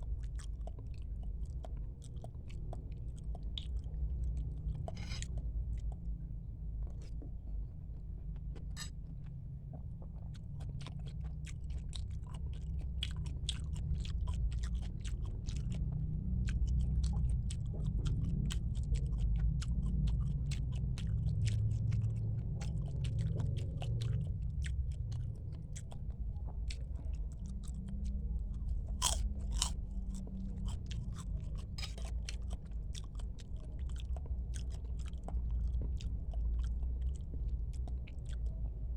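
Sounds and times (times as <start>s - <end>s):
person chewing: 0.0s - 6.2s, 8.2s - 38.6s.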